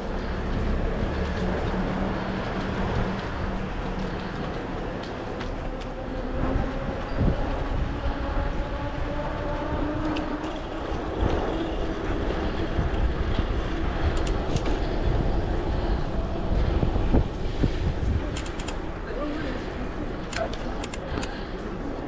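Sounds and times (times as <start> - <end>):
tyres rumbling on rough asphalt: 0.0 - 22.0
wind rushing over microphone: 0.0 - 22.0.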